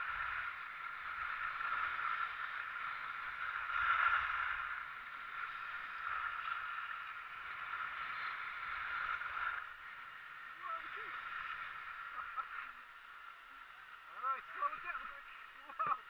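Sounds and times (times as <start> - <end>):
skis scraping over packed snow: 0.0 - 16.0.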